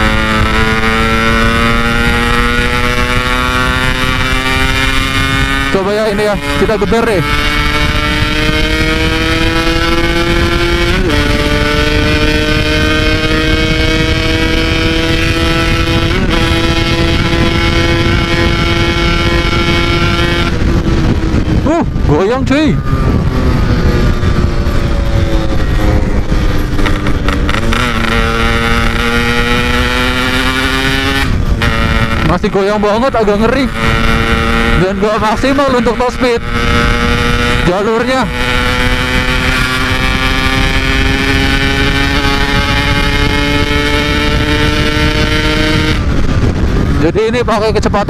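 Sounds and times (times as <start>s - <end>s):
motorcycle at full throttle: 0.0s - 48.0s
two-stroke engine at high revs: 0.0s - 48.0s
wind rushing over microphone: 0.0s - 48.0s.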